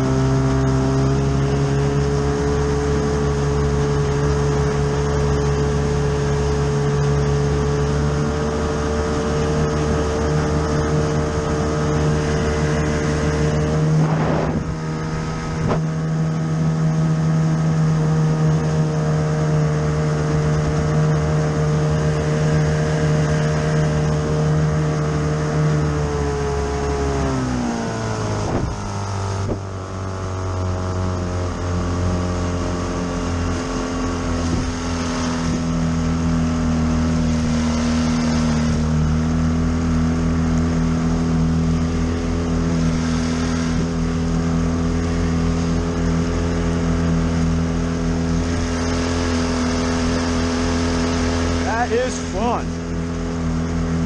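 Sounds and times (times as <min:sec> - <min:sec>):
outboard motor running fast: 0:00.0 - 0:54.0.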